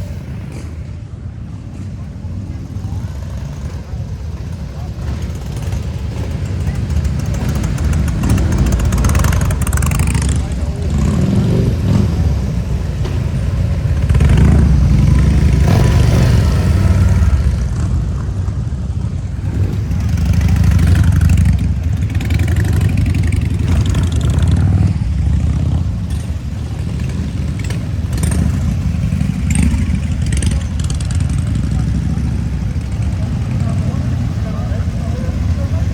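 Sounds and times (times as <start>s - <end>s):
motorcycle engine running: 2.2s - 35.9s.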